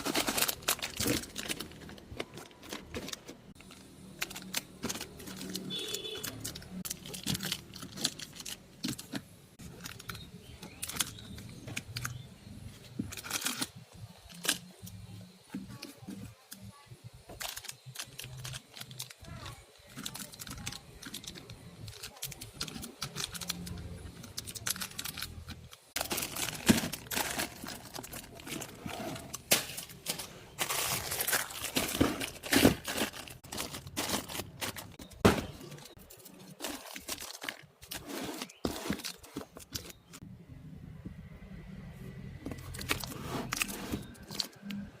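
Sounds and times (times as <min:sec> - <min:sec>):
plastic packaging crinkling: 0:00.0 - 0:12.2, 0:12.8 - 0:15.0, 0:17.3 - 0:40.2, 0:42.7 - 0:44.9
items being handled and set down: 0:00.0 - 0:40.2, 0:42.4 - 0:44.9.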